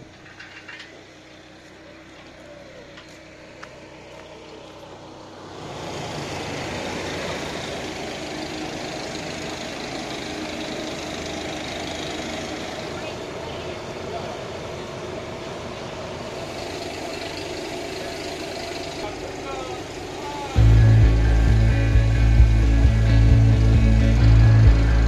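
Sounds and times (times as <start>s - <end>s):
vehicle engine running: 0.0s - 25.0s
steady rushing hiss: 3.1s - 25.0s.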